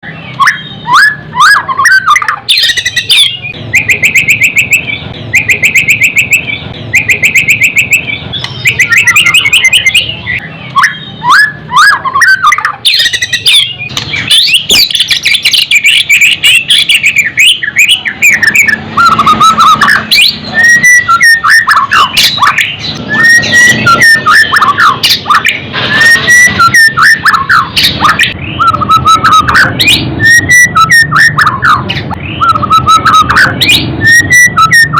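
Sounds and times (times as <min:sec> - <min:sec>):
bird singing trills and whistles: 0:00.0 - 0:34.9.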